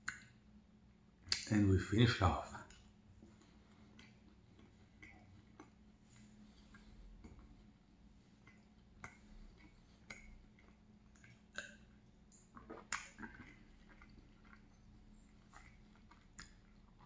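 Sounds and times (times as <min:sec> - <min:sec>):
soft chewing: 0:00.0 - 0:17.0
swallowing: 0:02.6 - 0:17.0.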